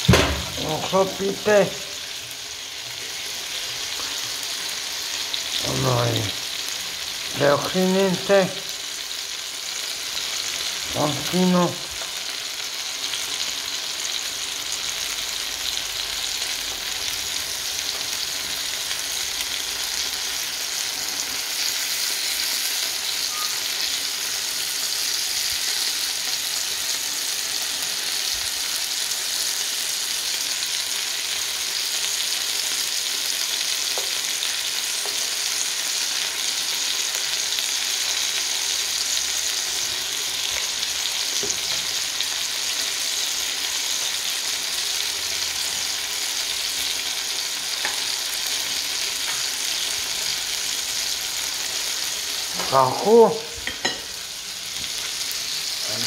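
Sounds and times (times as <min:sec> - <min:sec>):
chicken wings sizzling in oil: 0:00.0 - 0:56.0.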